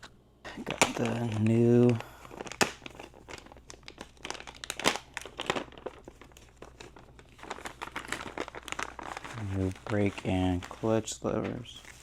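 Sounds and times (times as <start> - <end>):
packaging crinkling and rustling: 0.5 - 12.0.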